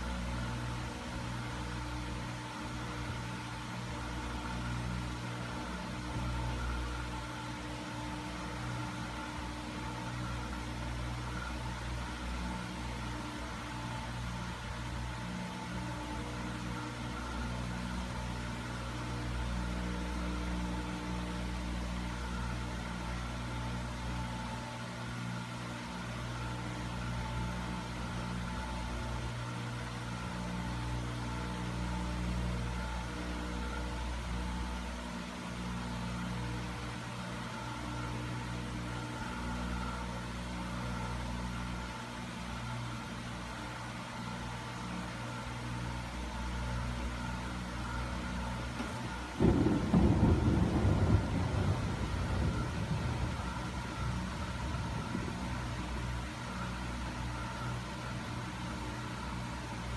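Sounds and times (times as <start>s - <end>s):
constant tones: 0.0s - 59.9s
low mechanical drone: 0.0s - 59.9s.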